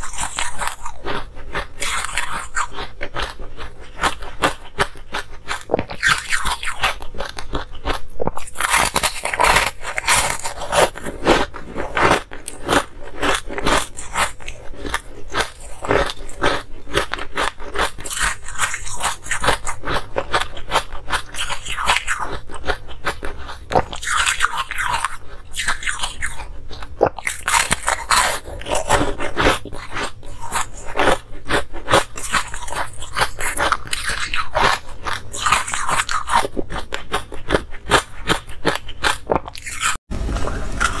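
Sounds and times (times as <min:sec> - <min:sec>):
crunching and chewing ice: 0:00.0 - 0:41.0.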